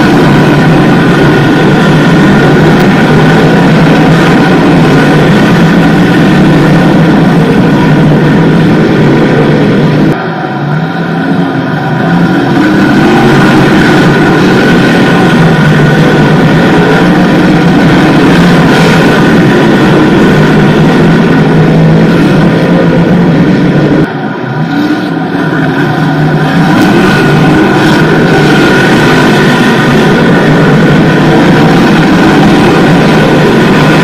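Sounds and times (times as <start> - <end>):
race car engines passing: 0.0 - 34.0.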